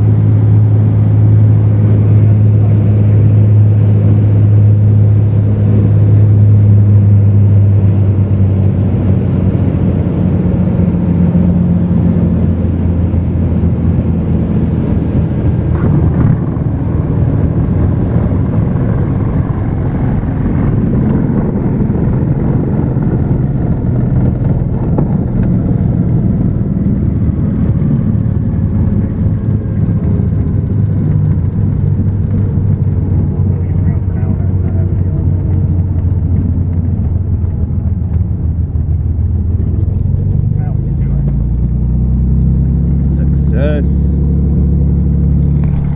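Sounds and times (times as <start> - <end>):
airplane engine droning in flight: 0.0 - 45.9.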